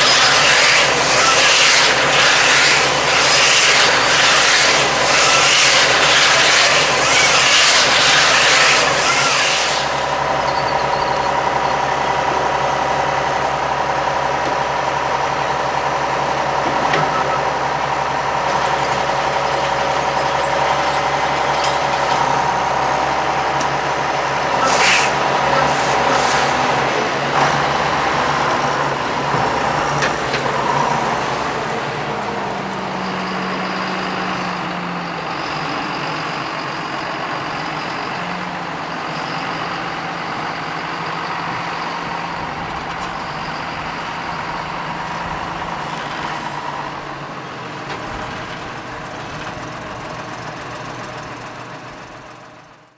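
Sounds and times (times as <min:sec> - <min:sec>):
baling machinery whine: 0:00.0 - 0:52.9
tractor engine running: 0:00.0 - 0:52.9.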